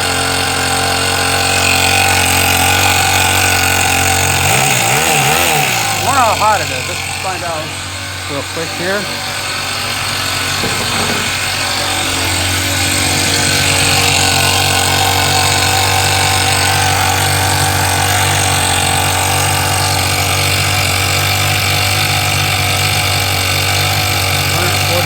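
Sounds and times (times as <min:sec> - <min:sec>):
model engine droning: 0:00.0 - 0:25.0.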